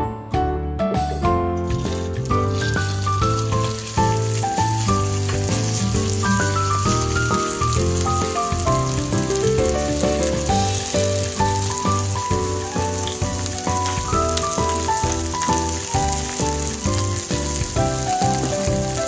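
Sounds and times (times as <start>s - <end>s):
background music with bass line: 0.0s - 19.0s
food sizzling in a frying pan: 1.6s - 19.0s.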